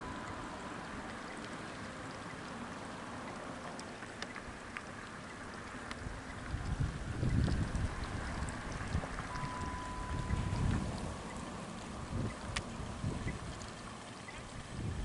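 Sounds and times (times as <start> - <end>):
faint ticks: 0.0 - 14.5
outdoor background hiss: 0.0 - 15.0.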